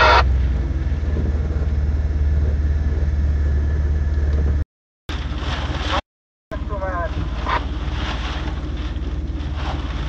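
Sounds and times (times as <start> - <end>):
vehicle engine rumble: 0.0 - 10.0.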